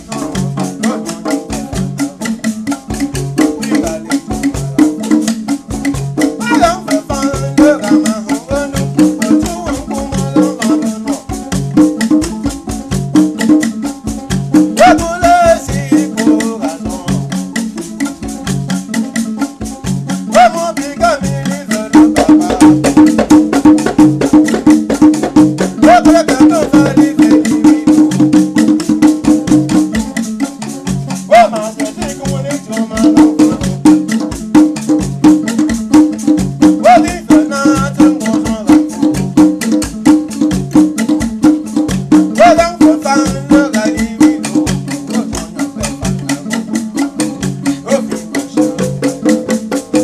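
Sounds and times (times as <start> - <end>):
shaken rattles: 0.0 - 50.0.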